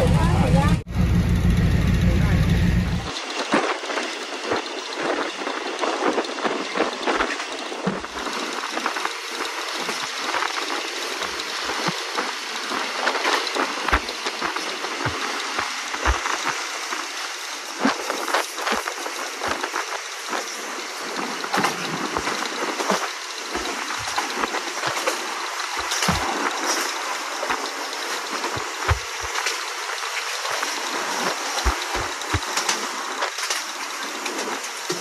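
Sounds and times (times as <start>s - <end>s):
train rattles and knocks: 0.0s - 35.0s.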